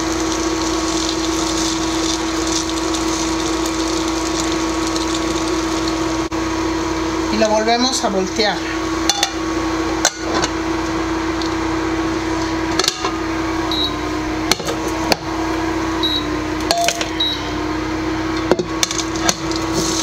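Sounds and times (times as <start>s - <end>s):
induction cooktop hum: 0.0s - 20.0s.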